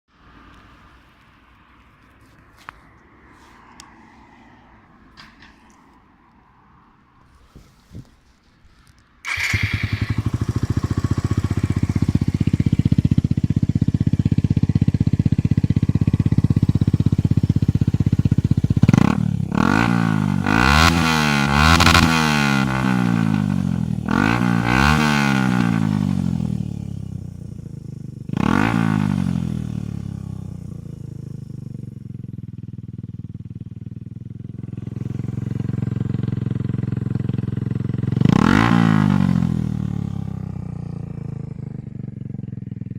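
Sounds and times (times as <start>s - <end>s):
motorcycle engine idling and revving: 0.2s - 6.0s, 8.0s - 42.9s.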